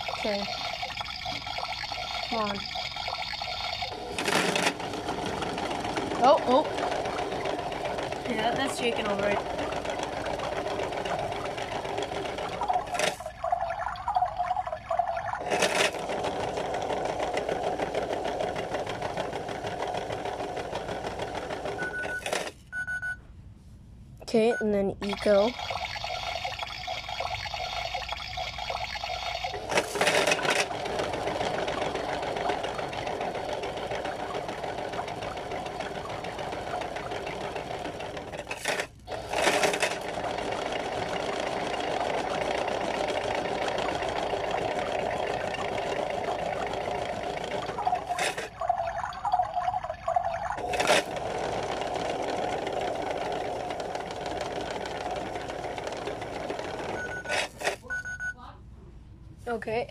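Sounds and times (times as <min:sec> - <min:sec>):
toy washing machine motor whirring: 0:00.0 - 0:23.2, 0:25.0 - 0:58.4.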